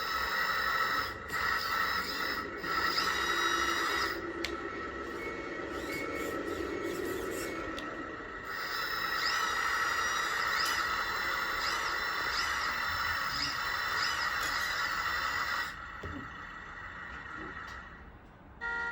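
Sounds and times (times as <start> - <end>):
short rising and falling squeals: 0.0 - 15.8
hydraulic pump whining: 0.0 - 18.0.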